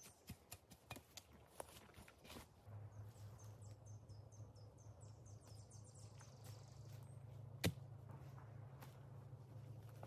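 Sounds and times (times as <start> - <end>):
low steady hum: 0.9 - 10.0.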